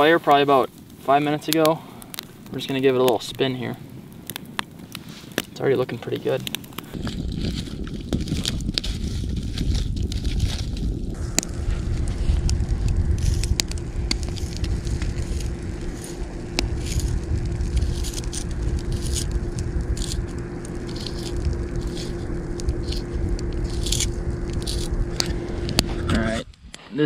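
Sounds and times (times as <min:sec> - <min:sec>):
wind rumble on microphone: 0:00.0 - 0:26.8
campfire crackling: 0:00.0 - 0:26.9.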